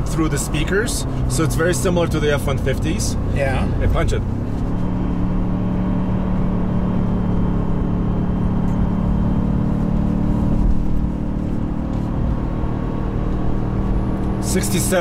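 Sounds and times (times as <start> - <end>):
engine droning at high revs: 0.0 - 15.0.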